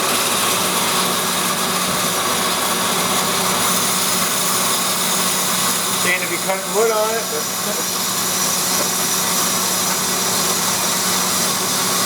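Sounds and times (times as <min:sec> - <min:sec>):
bandsaw running: 0:00.0 - 0:12.0.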